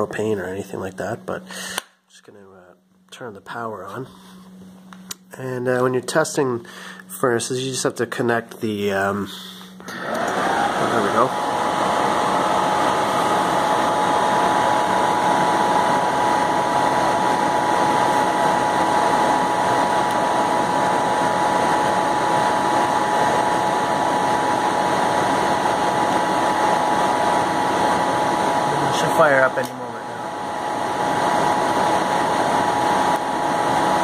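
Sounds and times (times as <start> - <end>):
furnace blower whining: 0.0 - 2.6, 3.4 - 34.0.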